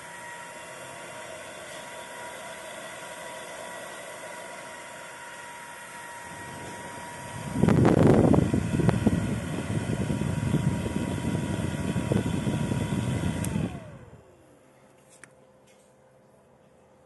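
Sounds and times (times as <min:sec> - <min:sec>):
fan whining and rushing air: 0:00.0 - 0:15.8.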